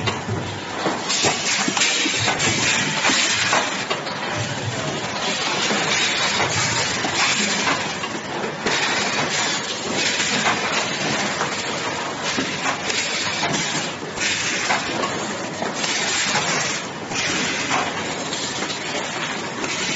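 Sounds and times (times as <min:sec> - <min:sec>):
workshop machines running: 0:00.0 - 0:19.9.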